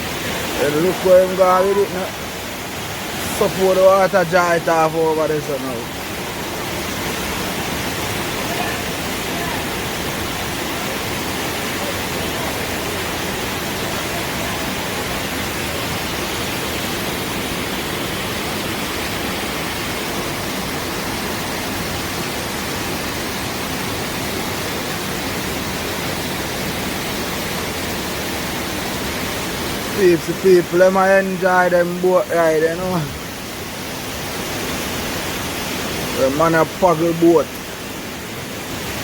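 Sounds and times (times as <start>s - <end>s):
river water rushing: 0.0s - 39.0s
waterfall rushing: 0.0s - 39.0s.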